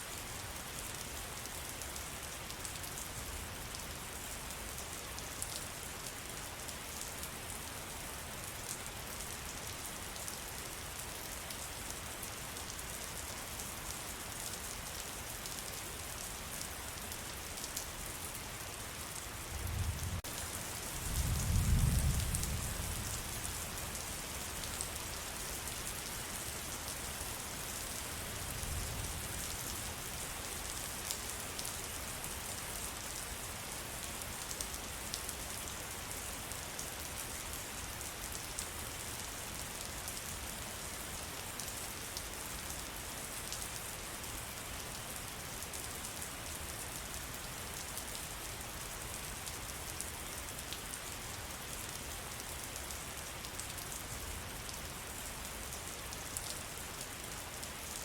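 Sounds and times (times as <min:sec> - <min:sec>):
rain pattering in forest: 0:00.0 - 0:58.0.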